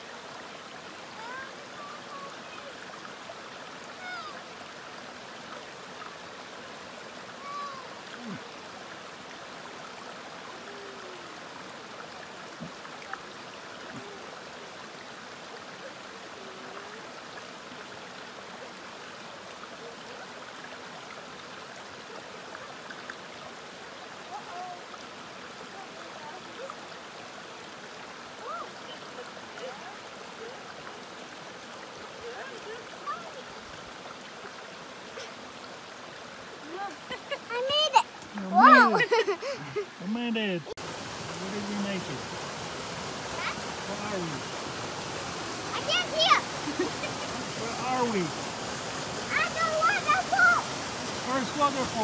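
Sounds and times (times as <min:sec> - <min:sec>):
creek running over stones: 0:00.0 - 0:52.0.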